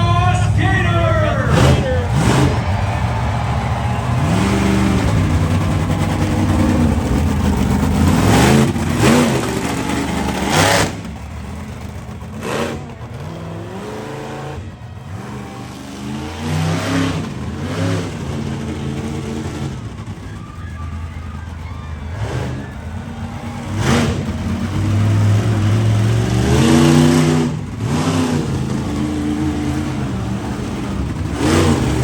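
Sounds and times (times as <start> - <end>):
sharp loud engine bursts: 0.0 - 32.0
truck engine revving: 0.0 - 32.0.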